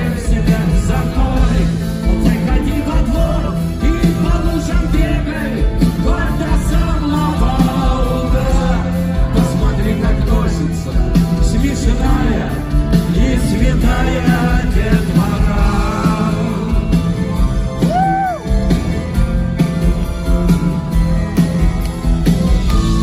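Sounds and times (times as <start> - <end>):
bass: 0.0 - 23.0
drums: 0.0 - 23.0
keyboards: 0.0 - 23.0.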